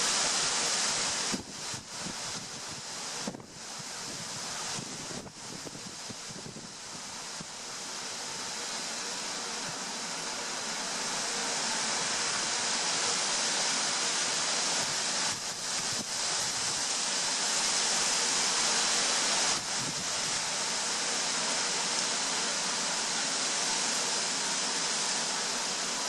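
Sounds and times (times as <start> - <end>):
gusty wind through trees: 0.0 - 26.0.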